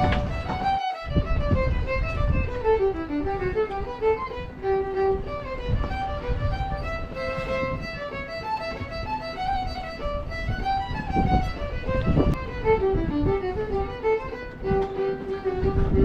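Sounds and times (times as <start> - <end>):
brisk fiddle tune: 0.0 - 16.0.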